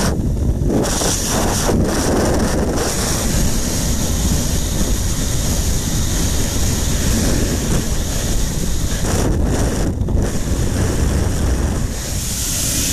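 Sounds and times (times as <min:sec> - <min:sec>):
wind roaring over microphone: 0:00.0 - 0:12.9.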